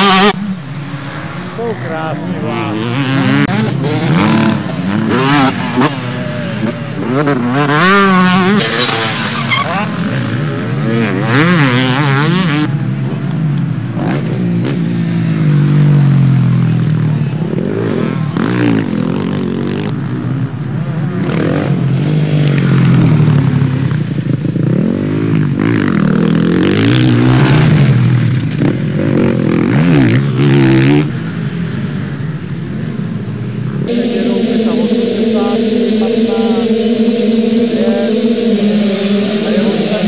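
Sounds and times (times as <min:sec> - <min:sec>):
motocross motorcycles revving: 0:00.0 - 0:40.0.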